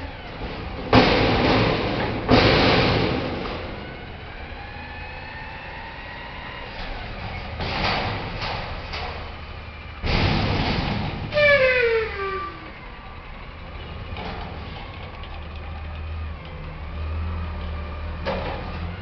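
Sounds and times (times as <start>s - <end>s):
garbage truck engine rumble: 0.0s - 19.0s.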